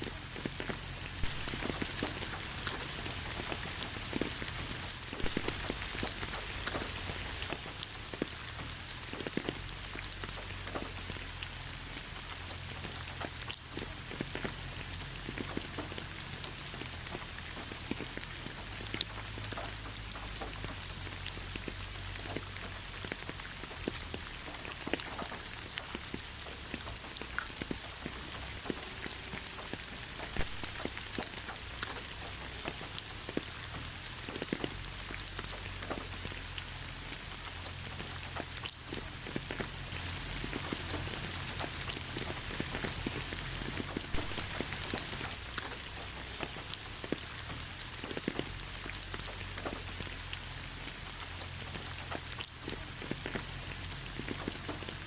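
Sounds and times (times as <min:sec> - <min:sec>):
low steady rumble: 0:00.0 - 0:55.0
rain hissing: 0:00.0 - 0:55.0
raindrops ticking on a surface: 0:00.0 - 0:55.0.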